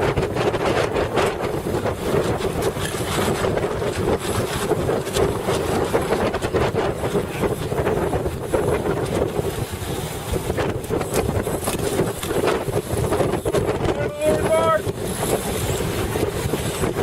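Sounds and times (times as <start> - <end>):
water rushing around boat: 0.0 - 17.0
wind buffeting microphone: 0.0 - 17.0.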